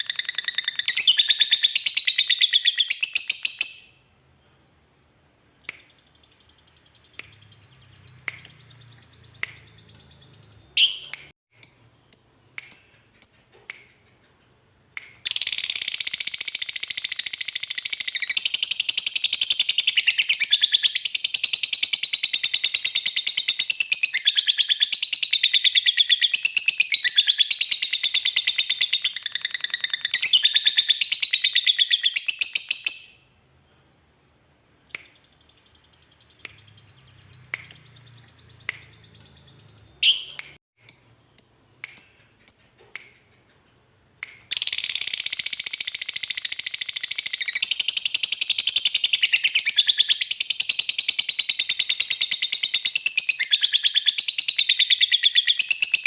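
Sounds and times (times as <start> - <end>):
sharp bird chirps: 0.0 - 14.2, 15.0 - 43.5, 44.2 - 56.0.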